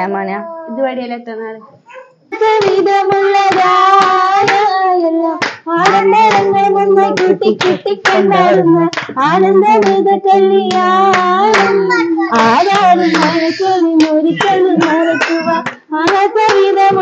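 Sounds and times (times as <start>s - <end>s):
lower voice singing: 2.3s - 17.0s
women singing together: 2.3s - 17.0s
hands clapping: 2.4s - 4.8s, 5.4s - 17.0s.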